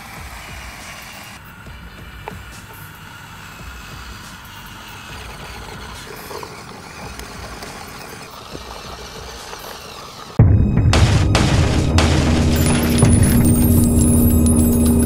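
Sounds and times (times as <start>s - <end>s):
small motor running: 0.0s - 10.4s, 12.6s - 15.0s.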